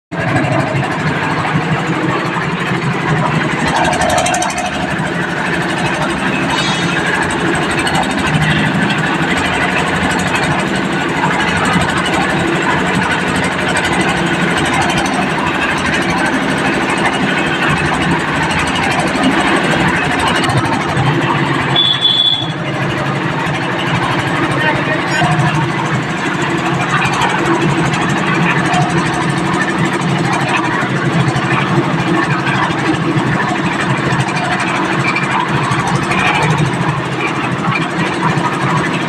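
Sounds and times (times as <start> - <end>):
concrete mixer engine running: 0.1 - 39.0.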